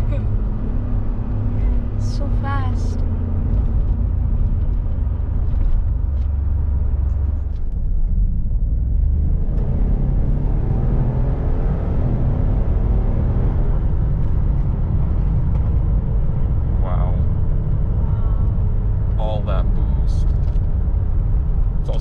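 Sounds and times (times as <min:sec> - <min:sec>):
car engine driving: 0:00.0 - 0:22.0.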